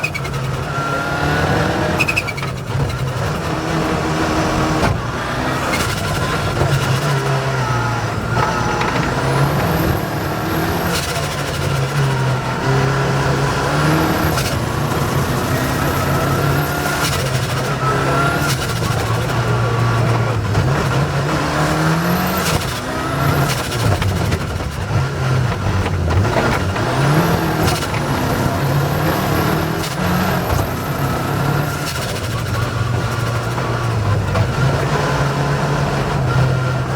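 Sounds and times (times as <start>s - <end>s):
car knocking over rough ground: 0.0s - 34.9s
high engine whine: 0.0s - 36.9s
rally car engine revving: 0.0s - 36.9s.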